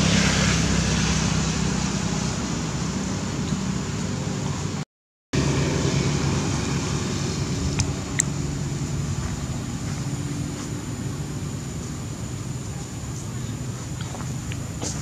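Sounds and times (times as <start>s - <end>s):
low mechanical hum: 0.0s - 4.8s, 5.4s - 15.0s.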